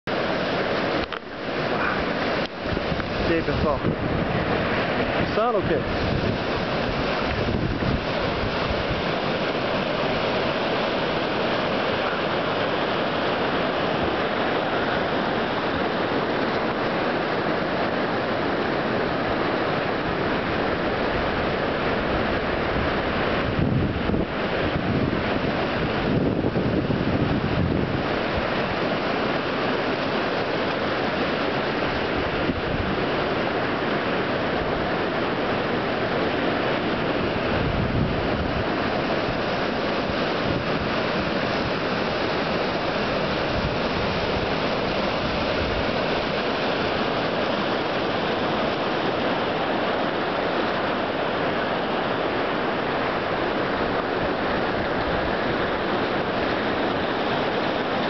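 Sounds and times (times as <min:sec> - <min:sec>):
surf washing among rocks: 0:00.0 - 0:58.0
wind gusts on microphone: 0:00.0 - 0:58.0.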